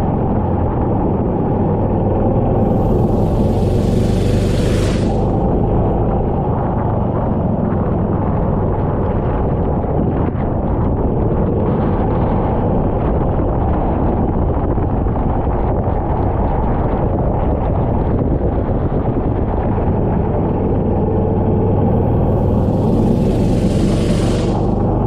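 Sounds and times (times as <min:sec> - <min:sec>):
wind buffeting microphone: 0:00.0 - 0:25.0
go-kart engine running: 0:00.1 - 0:14.0, 0:16.3 - 0:25.0.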